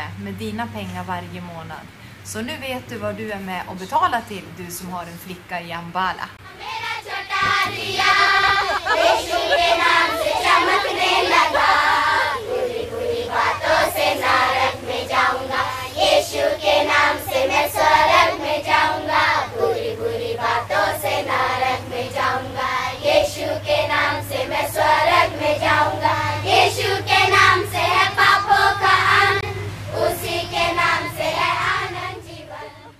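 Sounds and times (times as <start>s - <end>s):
girls singing in unison: 6.4s - 32.9s.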